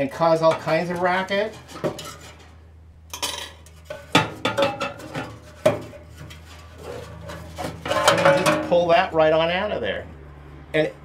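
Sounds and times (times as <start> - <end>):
metal scraping: 0.0 - 10.7
low steady hum: 0.0 - 11.0.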